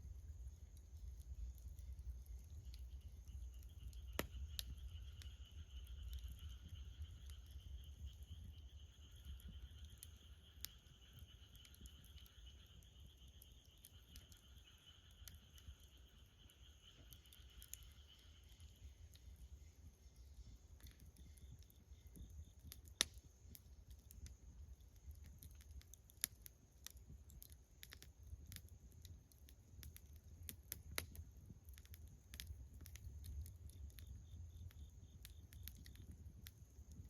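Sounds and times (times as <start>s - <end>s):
burning wood popping: 0.0s - 37.0s
wood fire crackling: 0.0s - 37.0s.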